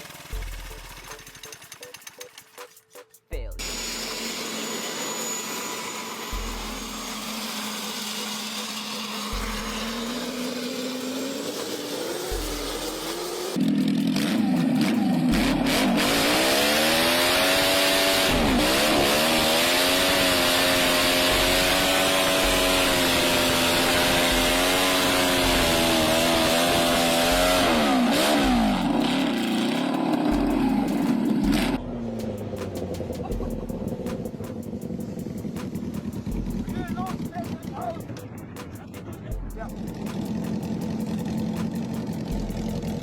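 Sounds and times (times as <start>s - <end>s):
small petrol engine revving: 0.0s - 1.7s, 3.6s - 38.1s, 39.7s - 43.0s.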